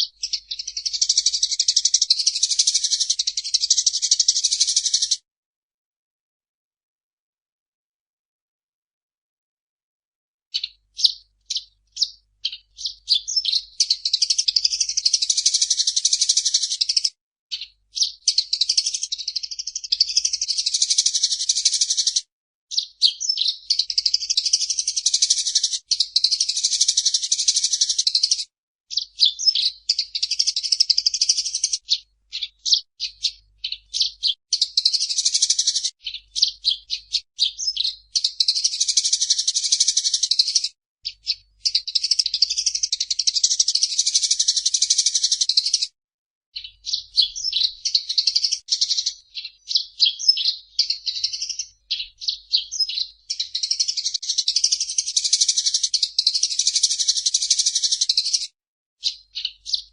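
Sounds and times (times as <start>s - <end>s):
sparrow chattering: 0.0s - 5.2s, 10.6s - 46.0s, 46.6s - 59.9s.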